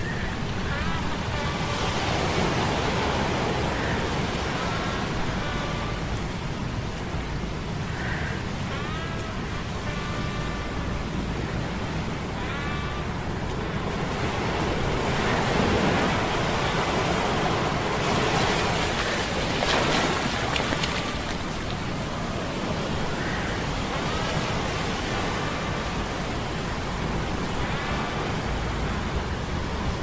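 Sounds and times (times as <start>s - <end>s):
surging waves: 0.0s - 30.0s
wind: 0.0s - 30.0s.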